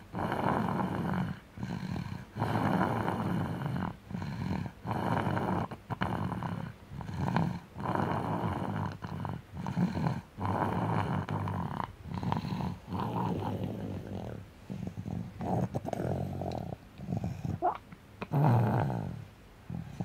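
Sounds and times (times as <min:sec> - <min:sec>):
rattling snoring: 0:00.0 - 0:17.7, 0:18.3 - 0:20.0.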